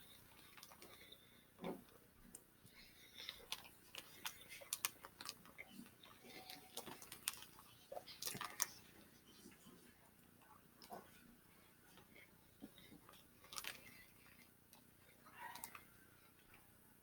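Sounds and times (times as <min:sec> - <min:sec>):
chewing: 0:00.0 - 0:16.7.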